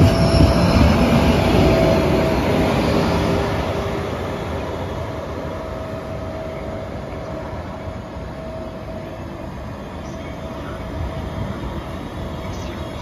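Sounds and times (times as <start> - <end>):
train rumbling away: 0.0 - 13.0.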